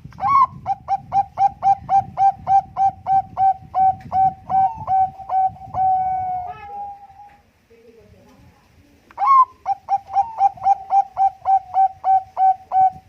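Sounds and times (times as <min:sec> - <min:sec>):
dove cooing: 0:00.2 - 0:07.4, 0:09.2 - 0:13.0.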